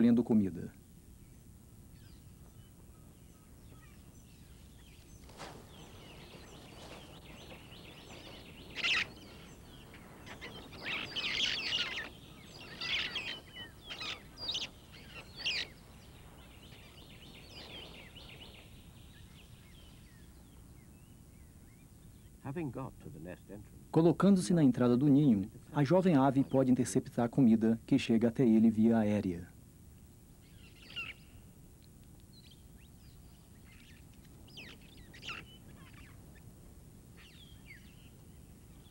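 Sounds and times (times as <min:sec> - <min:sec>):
faint chirping: 0:00.1 - 0:23.6, 0:30.0 - 0:38.9.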